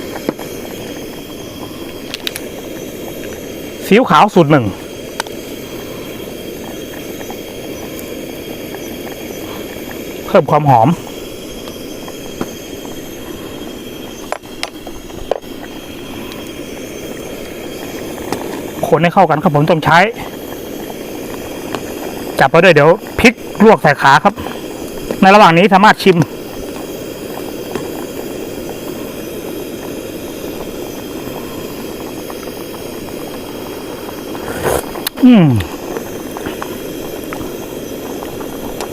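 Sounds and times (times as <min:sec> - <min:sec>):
curry simmering in a pot: 0:00.0 - 0:38.9
stove burner rushing: 0:00.0 - 0:38.9.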